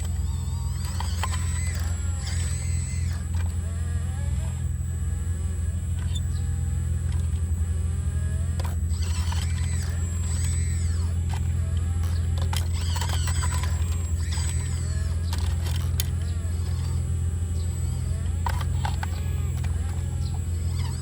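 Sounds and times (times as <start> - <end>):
excavator diesel engine droning: 0.0 - 21.0
high machine squeaks: 0.0 - 21.0.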